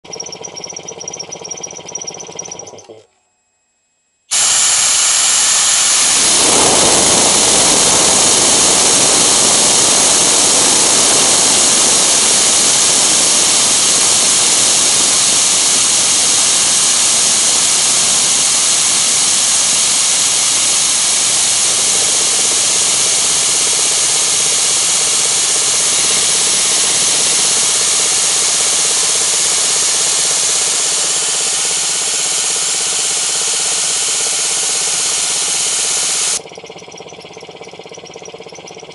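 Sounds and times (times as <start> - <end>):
compressed air hissing from nozzle: 4.3 - 38.8.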